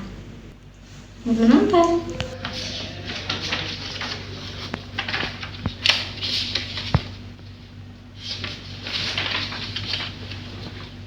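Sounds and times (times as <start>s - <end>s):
steady low hum: 0.0s - 11.0s
rustling: 0.8s - 11.0s.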